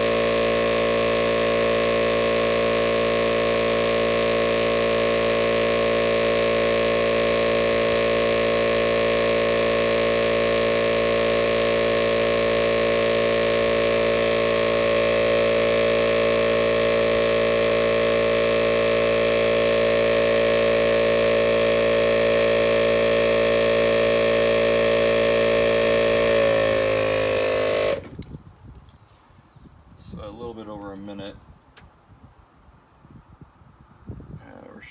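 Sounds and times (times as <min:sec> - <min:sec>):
air compressor humming: 0:00.0 - 0:28.4.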